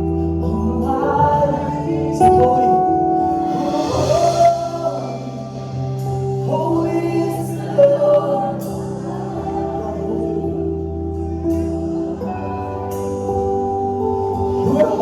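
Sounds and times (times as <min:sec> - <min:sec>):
band playing held chords: 0:00.0 - 0:15.0
people singing: 0:00.4 - 0:13.6, 0:14.4 - 0:15.0.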